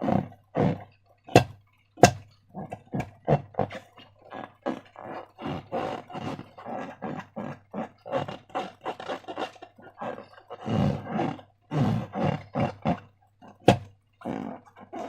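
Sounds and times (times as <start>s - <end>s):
wet slime squelches: 0.0s - 15.0s.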